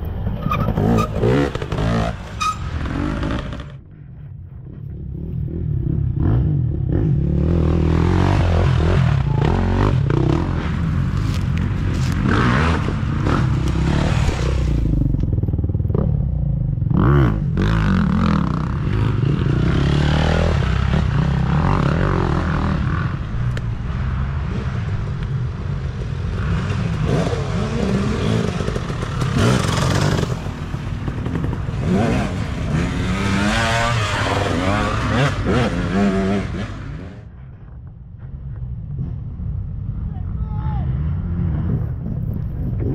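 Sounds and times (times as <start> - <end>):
dirt bike engines revving: 0.0 - 3.8, 4.6 - 37.3.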